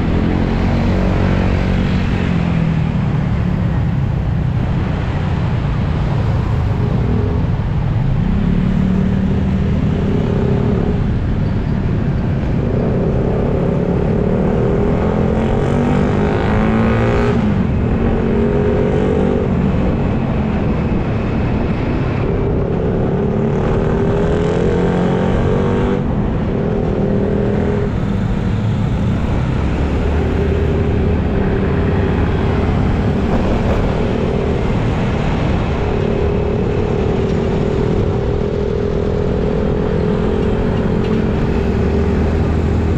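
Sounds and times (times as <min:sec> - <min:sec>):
wind and road noise: 0:00.0 - 0:42.9.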